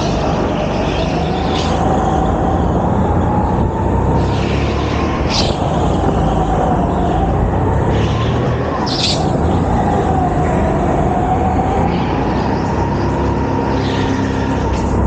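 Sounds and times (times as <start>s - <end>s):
go-kart motor whining: 0.0s - 15.0s.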